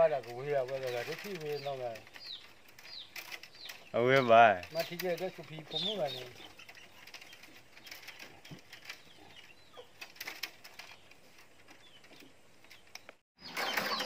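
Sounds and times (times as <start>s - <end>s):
bamboo strips clicking and rustling: 0.0s - 14.0s
small birds chirping: 0.0s - 14.0s.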